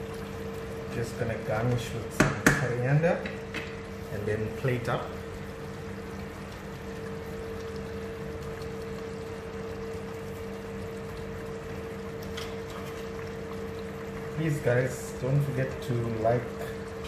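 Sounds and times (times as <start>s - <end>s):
constant hum: 0.0s - 17.0s
pot simmering hiss: 0.0s - 17.0s.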